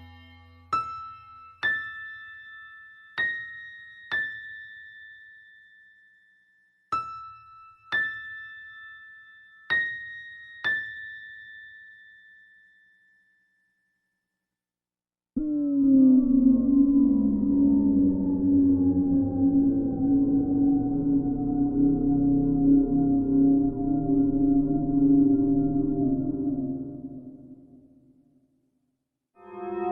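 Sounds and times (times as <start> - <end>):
eerie bell-like keyboard melody: 0.8 - 13.9, 15.4 - 27.9, 29.4 - 29.9.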